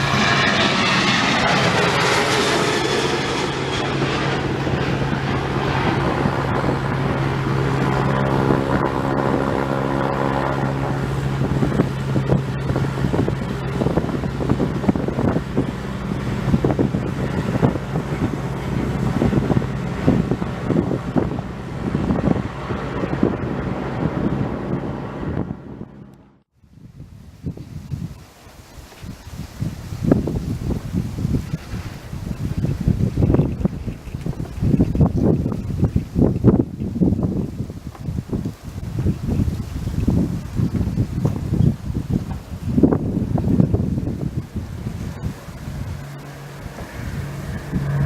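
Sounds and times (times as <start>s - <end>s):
propeller aircraft engine drone: 0.0s - 48.0s
wind buffeting microphone: 0.0s - 48.0s.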